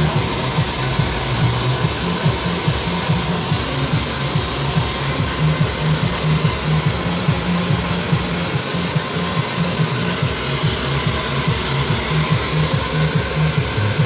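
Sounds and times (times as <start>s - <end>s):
hair dryer blowing: 0.0s - 14.0s
music with pulsing bass: 0.0s - 14.0s.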